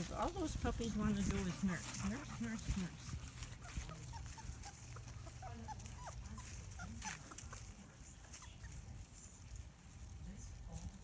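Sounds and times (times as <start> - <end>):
puppies squeaking and whimpering: 0.0 - 9.6
rustling: 0.0 - 11.0.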